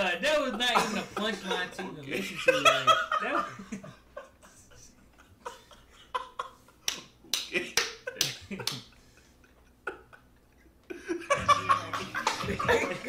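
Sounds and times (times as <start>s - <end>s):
people laughing: 0.2s - 13.0s.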